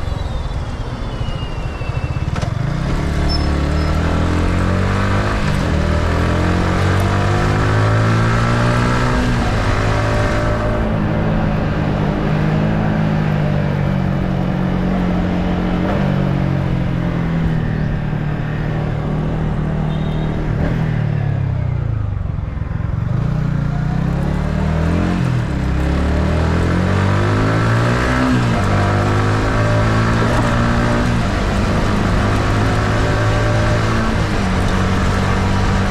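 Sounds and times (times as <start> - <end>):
motorcycle engine while riding: 0.0 - 35.9.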